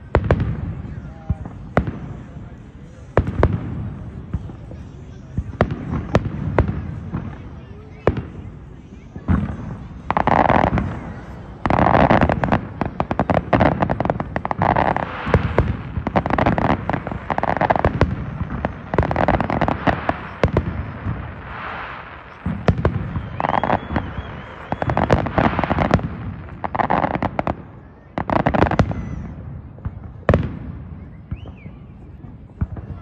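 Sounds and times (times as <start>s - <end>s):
fireworks popping and crackling: 0.0s - 33.0s.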